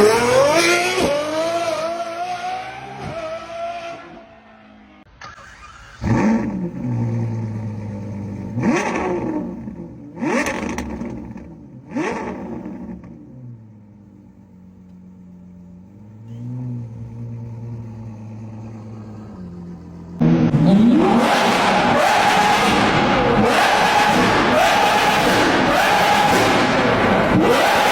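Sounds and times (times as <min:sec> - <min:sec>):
car engine revving and idling: 0:00.0 - 0:27.9.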